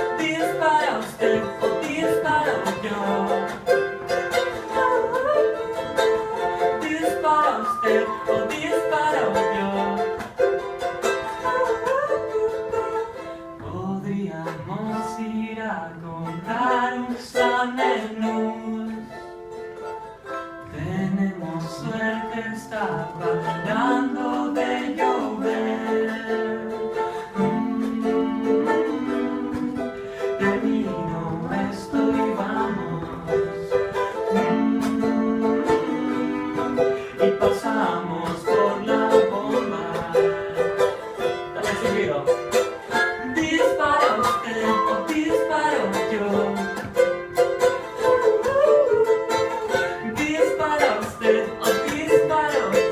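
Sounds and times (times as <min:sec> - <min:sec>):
wordless vocal melody: 0:00.0 - 0:19.6, 0:20.6 - 0:52.9
plucked string instrument strummed: 0:00.0 - 0:52.9.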